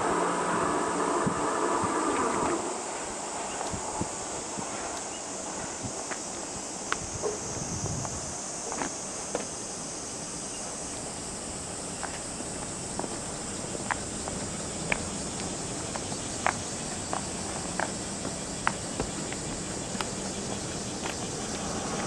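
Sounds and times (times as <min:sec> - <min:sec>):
high-pitched insect noise: 0:00.0 - 0:22.0.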